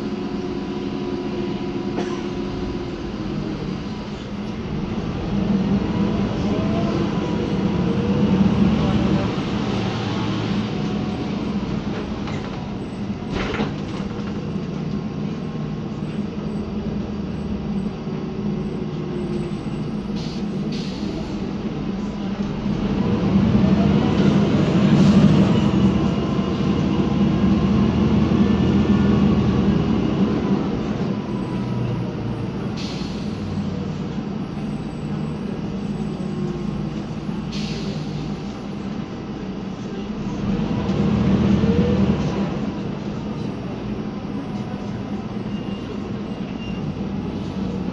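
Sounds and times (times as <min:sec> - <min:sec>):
bus engine droning: 0:00.0 - 0:47.9.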